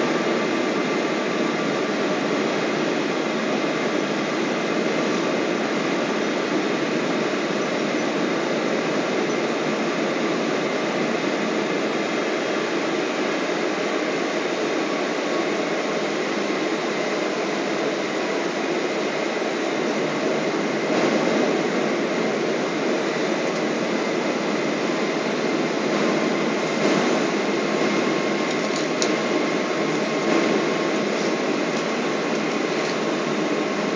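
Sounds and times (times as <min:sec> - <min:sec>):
airliner cabin engine and airflow noise: 0:00.0 - 0:33.9
faint steady whine tones: 0:00.0 - 0:33.9.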